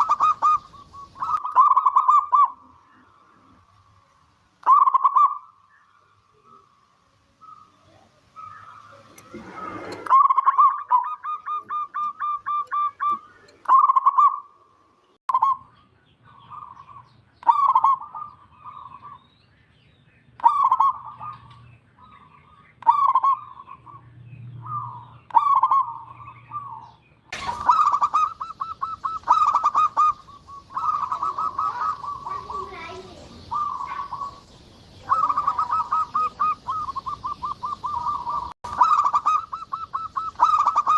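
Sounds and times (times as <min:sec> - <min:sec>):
dove cooing: 0:00.0 - 0:03.7, 0:04.6 - 0:05.5, 0:07.4 - 0:14.5, 0:16.4 - 0:19.2, 0:20.4 - 0:21.6, 0:22.8 - 0:24.0, 0:24.6 - 0:40.9.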